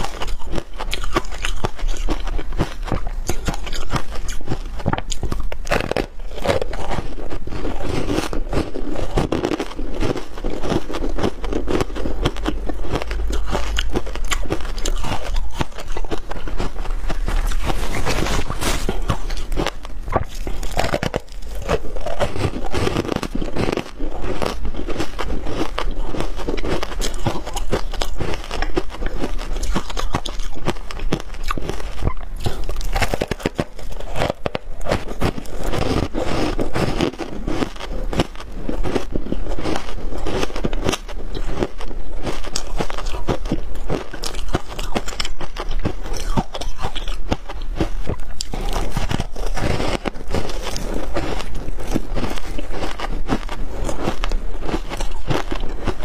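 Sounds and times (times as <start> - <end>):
chewing crunchy ice: 0.0 - 56.0.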